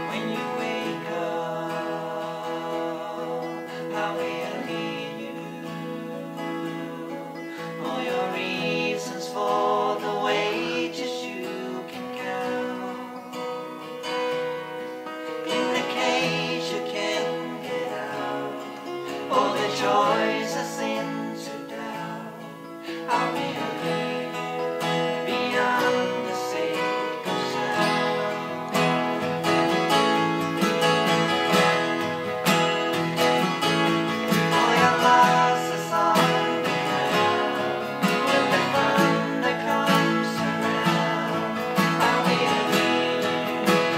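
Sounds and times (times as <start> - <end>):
men singing together: 0.0 - 13.6, 15.4 - 29.4, 33.4 - 43.9
acoustic guitars strummed: 0.0 - 43.9.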